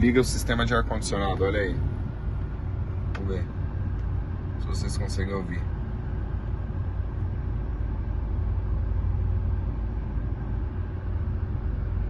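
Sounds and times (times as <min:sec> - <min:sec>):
car air conditioning blower: 0:00.0 - 0:12.0.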